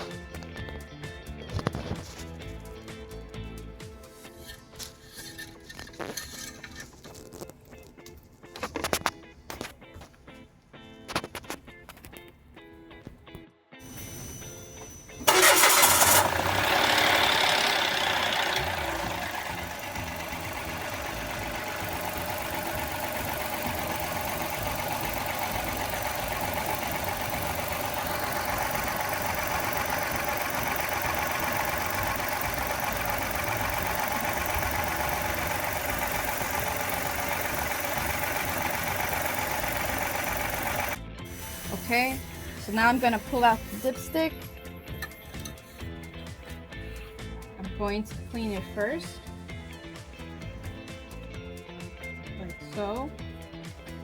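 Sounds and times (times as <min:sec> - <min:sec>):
car engine starting and idling: 0:00.0 - 0:07.5, 0:13.8 - 0:53.0.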